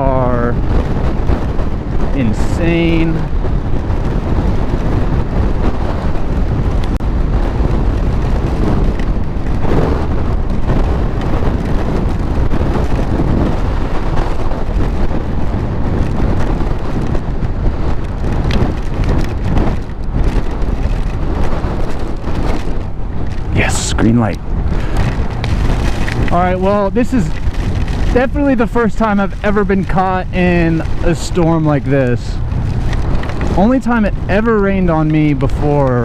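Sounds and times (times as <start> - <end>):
rain: 0.0 - 36.0
wind buffeting microphone: 0.0 - 36.0.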